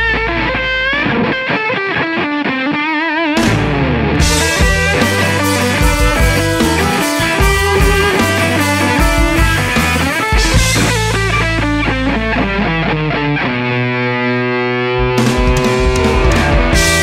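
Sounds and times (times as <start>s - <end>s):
electric blues band playing: 0.0s - 17.0s
guitar chord ringing: 3.4s - 17.0s.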